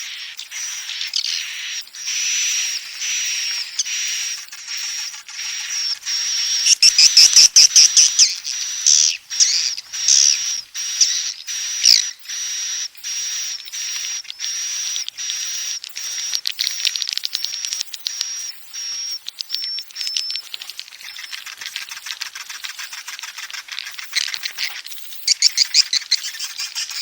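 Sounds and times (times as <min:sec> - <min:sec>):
swiftlet twittering chirps: 0:00.0 - 0:27.0.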